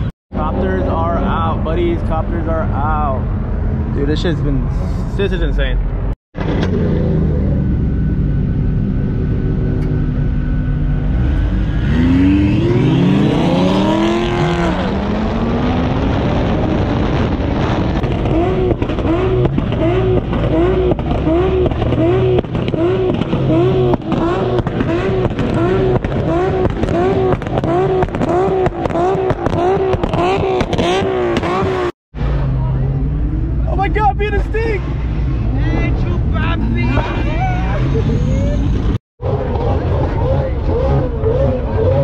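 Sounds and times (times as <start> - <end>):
car engine revving: 0.0 - 34.0, 34.7 - 42.0.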